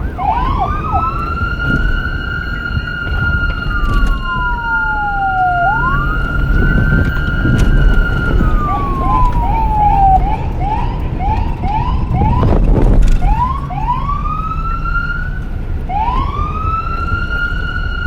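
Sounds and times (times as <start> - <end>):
low traffic rumble: 0.0 - 18.0
police siren wailing and yelping: 0.0 - 18.0.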